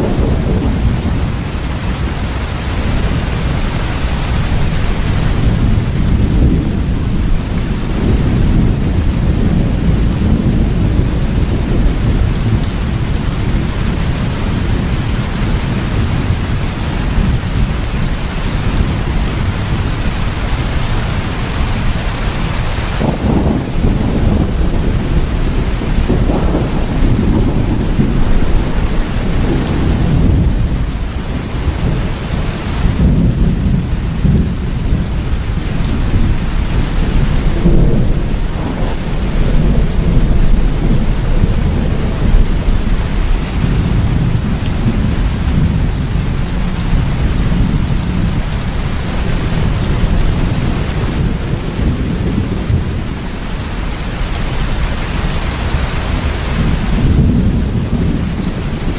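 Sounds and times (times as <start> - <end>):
rolling thunder: 0.0 - 58.9
steady rain: 0.0 - 58.9.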